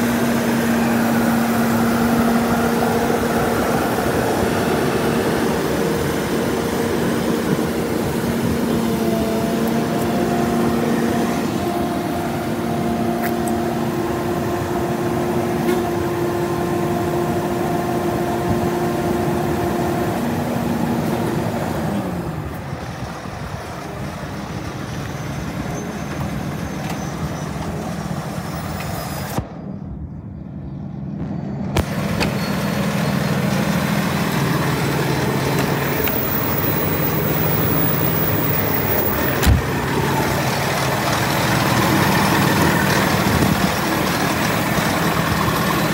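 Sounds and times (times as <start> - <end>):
diesel truck engine running: 0.0 - 45.9
steady mechanical whine: 0.0 - 45.9.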